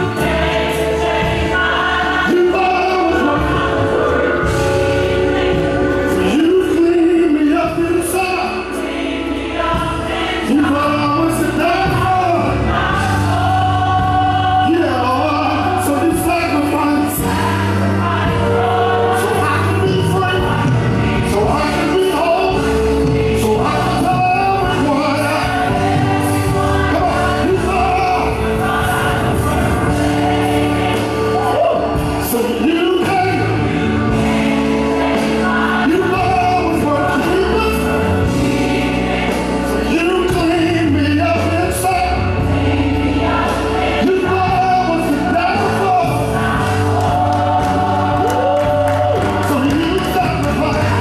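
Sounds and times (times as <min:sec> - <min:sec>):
gospel singing with band: 0:00.0 - 0:51.0.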